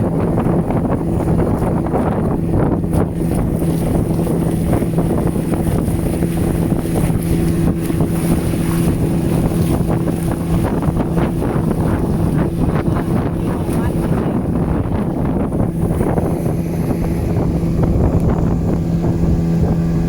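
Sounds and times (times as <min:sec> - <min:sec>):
outboard motor running: 0:00.0 - 0:20.0
wind buffeting microphone: 0:00.0 - 0:20.0.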